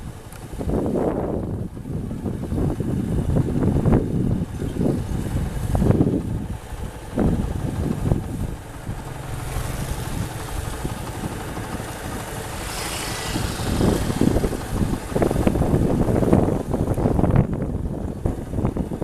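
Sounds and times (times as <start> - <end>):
combine harvester engine rumbling: 0.0 - 19.0
wind buffeting microphone: 0.0 - 19.0.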